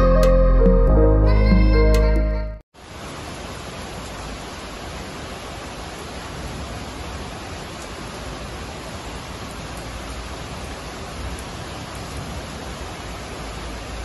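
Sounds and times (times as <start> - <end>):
floodwater rushing: 2.8 - 14.0.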